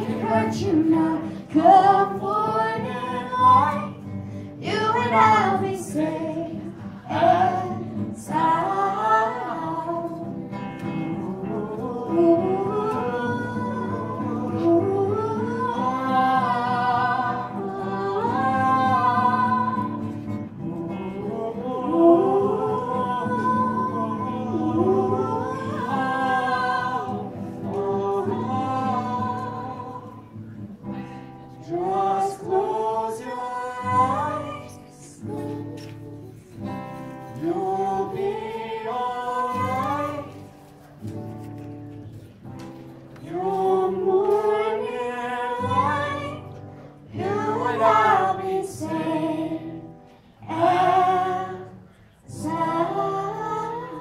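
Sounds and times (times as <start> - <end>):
man and woman singing: 0.0 - 40.7, 43.2 - 54.0
acoustic guitar strumming: 0.0 - 54.0.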